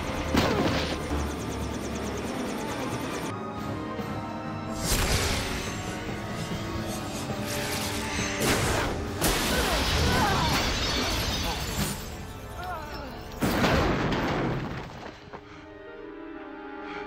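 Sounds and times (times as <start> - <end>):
dramatic film score: 0.0 - 17.0.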